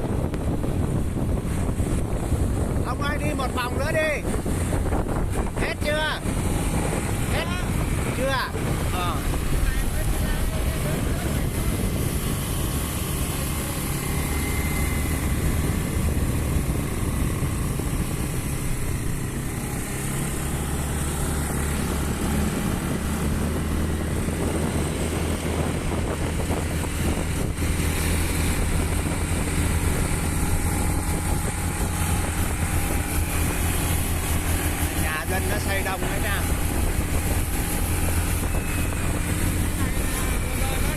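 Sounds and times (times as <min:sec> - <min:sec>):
road and wind noise: 0:00.0 - 0:40.9
motorbike engine running: 0:03.5 - 0:40.9.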